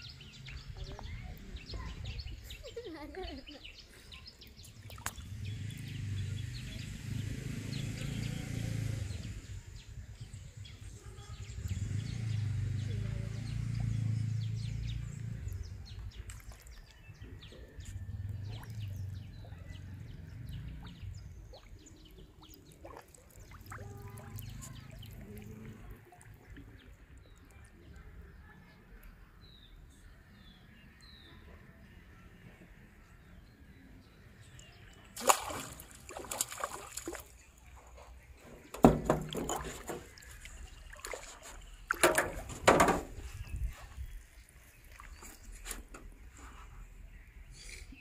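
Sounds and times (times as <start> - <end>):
birds chirping faintly: 0.0 - 48.0.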